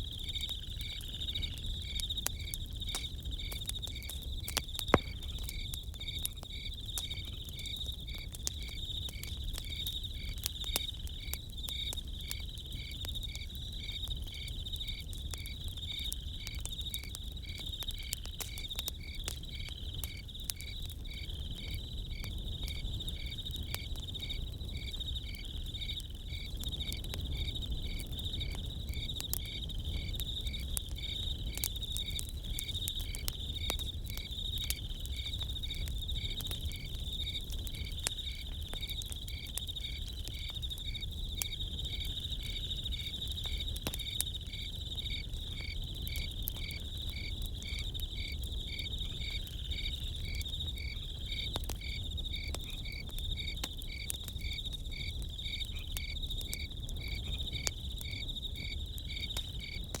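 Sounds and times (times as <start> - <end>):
campfire crackling: 0.0 - 60.0
crickets chirping: 0.0 - 60.0.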